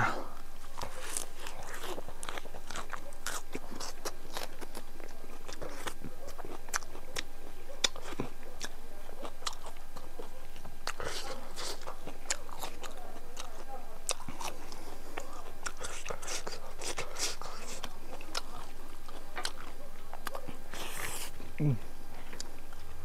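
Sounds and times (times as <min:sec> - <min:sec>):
close chewing clicks: 0:00.4 - 0:23.0.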